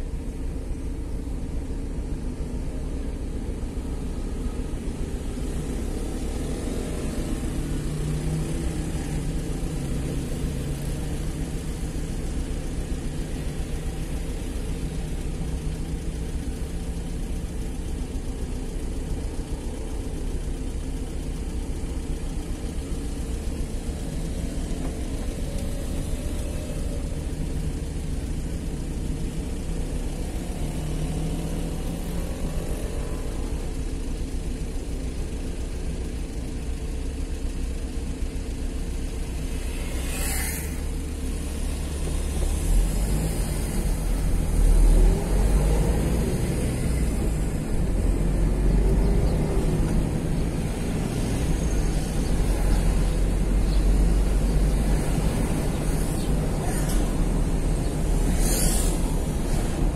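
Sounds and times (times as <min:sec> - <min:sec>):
car engine idling: 0:00.0 - 0:59.9
vehicles passing by: 0:00.0 - 0:59.9.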